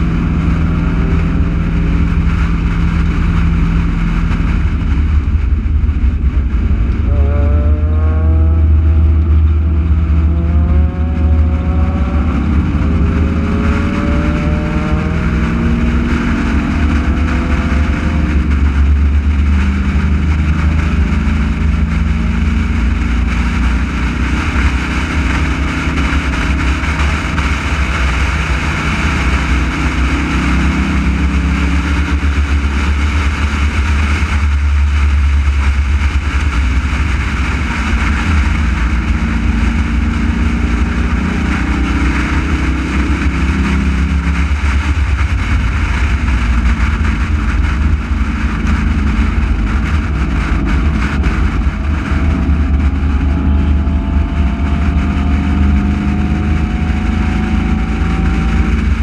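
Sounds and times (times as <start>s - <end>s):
race car engine running hard: 0.0s - 59.0s
wind rushing: 0.0s - 59.0s.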